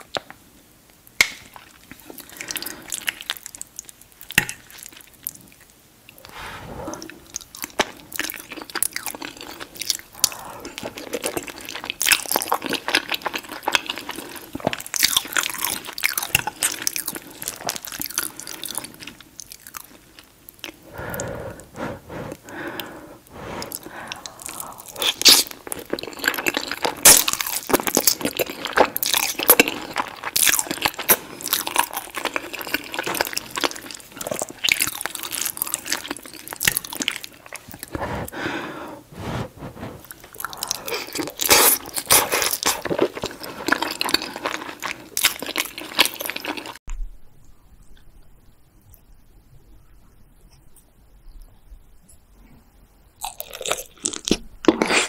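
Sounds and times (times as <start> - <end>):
person chewing crunchy food: 1.2 - 46.9, 53.2 - 55.0.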